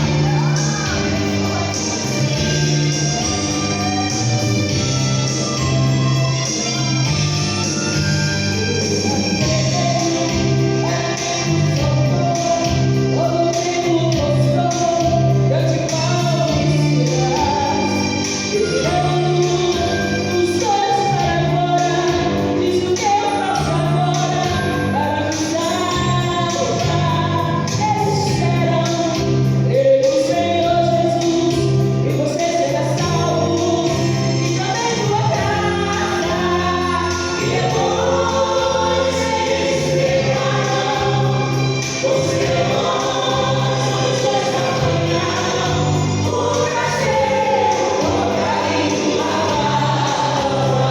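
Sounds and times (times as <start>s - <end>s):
band accompaniment with bass: 0.0s - 50.9s
choir singing gospel song: 0.0s - 50.9s.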